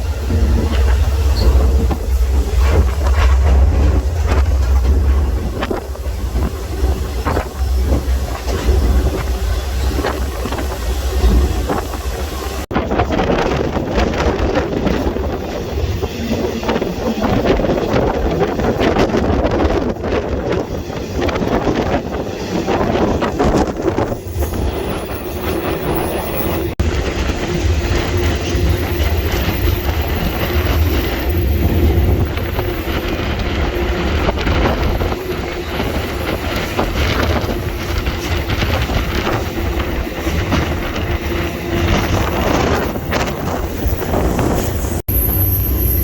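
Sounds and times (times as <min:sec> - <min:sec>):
rail car clatter: 0:00.0 - 0:46.0
train wheels rumbling on rails: 0:00.0 - 0:46.0.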